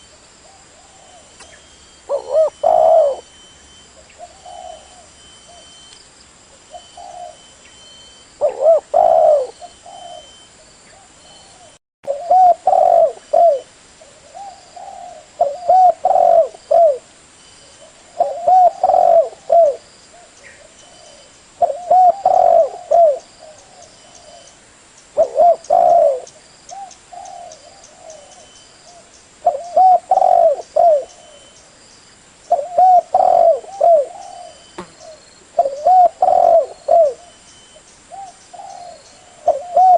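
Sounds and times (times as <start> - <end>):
dove cooing: 0.0 - 3.4, 4.0 - 5.8, 6.7 - 7.6, 8.4 - 24.6, 25.2 - 31.6, 32.5 - 37.4, 38.1 - 39.9.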